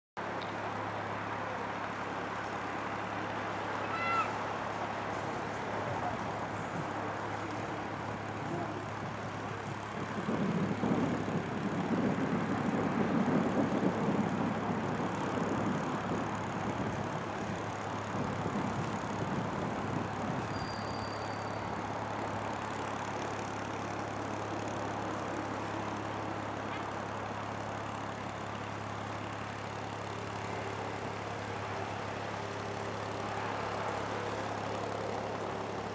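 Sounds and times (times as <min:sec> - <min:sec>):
diesel boat engine droning: 0:00.2 - 0:35.9.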